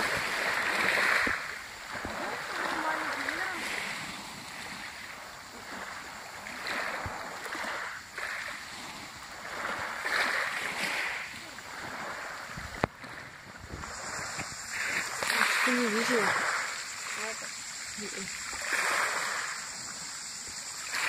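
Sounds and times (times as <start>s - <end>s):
waves lapping on pebble shore: 0.0s - 21.0s.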